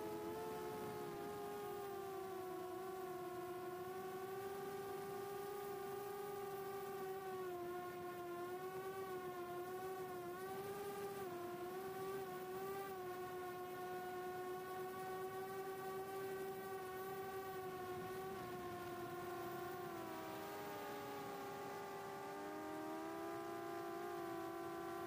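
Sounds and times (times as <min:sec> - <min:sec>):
drone motors and propellers whining: 0:00.0 - 0:25.0.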